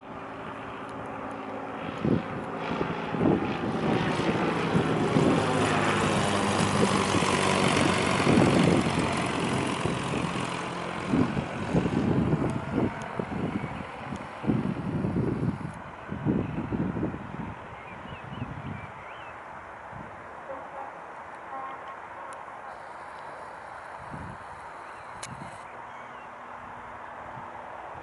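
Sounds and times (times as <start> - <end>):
propeller plane engine droning: 0.0 - 28.0
wind buffeting microphone: 0.6 - 20.6, 23.1 - 25.8.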